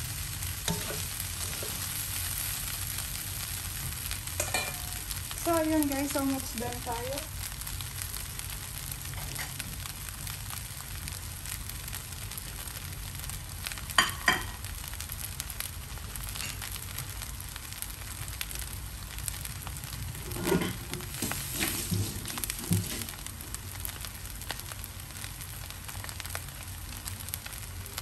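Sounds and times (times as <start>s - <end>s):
food sizzling in a wok: 0.0s - 28.0s.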